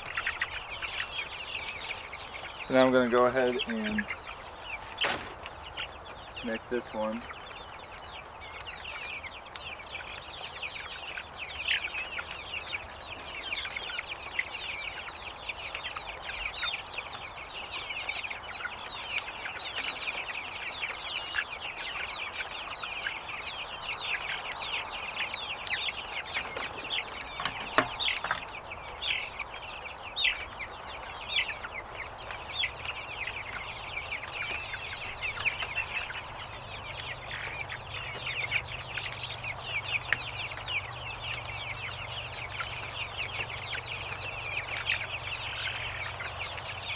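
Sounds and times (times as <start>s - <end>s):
baby chicks peeping: 0.0s - 46.9s
insects droning: 0.0s - 46.9s.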